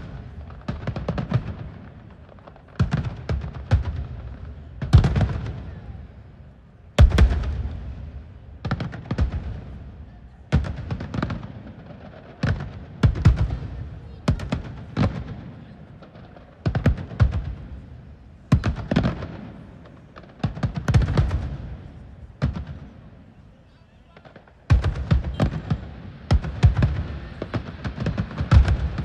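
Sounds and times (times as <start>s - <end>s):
fireworks bursting: 0.0s - 6.2s, 6.9s - 29.0s.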